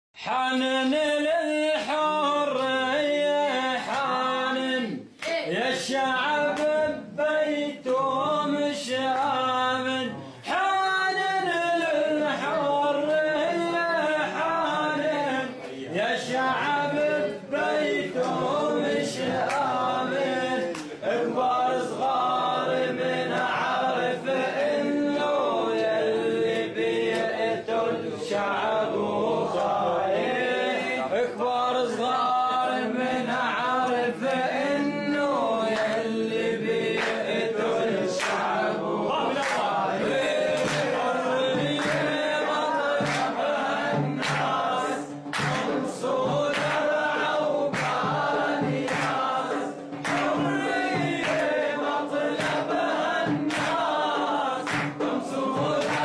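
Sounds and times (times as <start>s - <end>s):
men chanting together: 0.2s - 56.0s.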